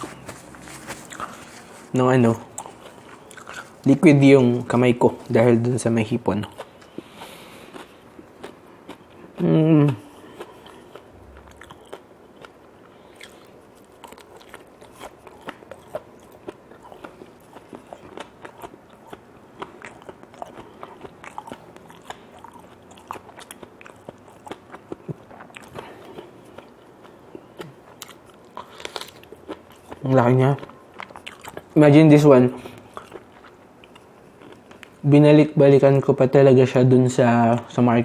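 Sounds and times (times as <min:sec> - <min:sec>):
person chewing crunchy food: 0:00.0 - 0:05.4, 0:06.2 - 0:31.8, 0:32.6 - 0:35.1.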